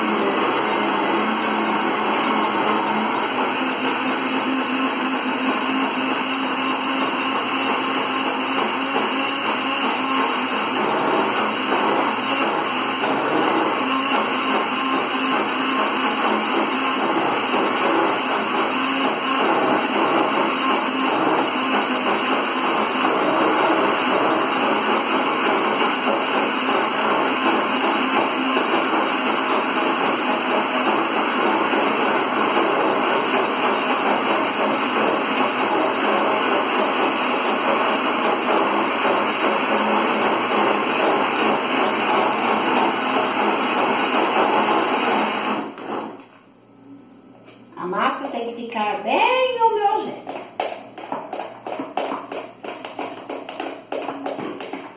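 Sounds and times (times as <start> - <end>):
electric blender running: 0.0 - 46.8, 50.2 - 54.9.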